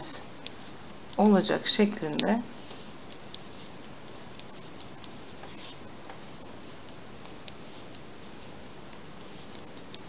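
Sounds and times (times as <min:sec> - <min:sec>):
knitting needles clicking: 0:00.0 - 0:02.4, 0:03.0 - 0:10.0
steady background hiss: 0:00.0 - 0:10.0.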